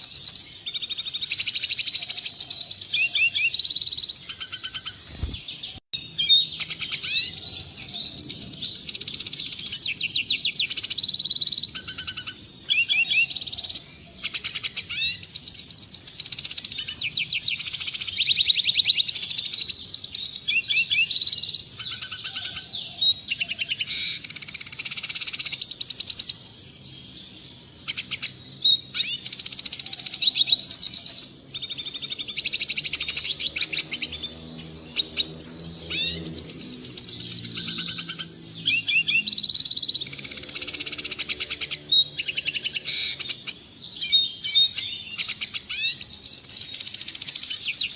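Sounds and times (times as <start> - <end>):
bird twittering trills: 0.0 - 47.9.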